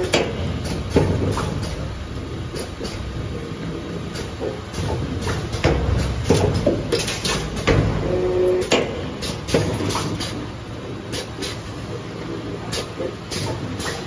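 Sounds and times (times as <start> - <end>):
machine clanks and knocks: 0.0 - 14.0
mechanical rumble: 0.0 - 14.0.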